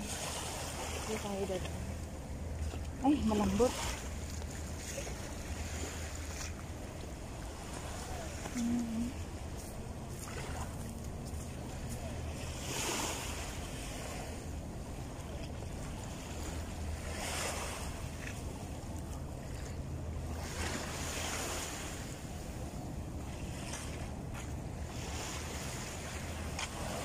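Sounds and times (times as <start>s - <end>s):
small waves washing onto sand: 0.0s - 27.0s.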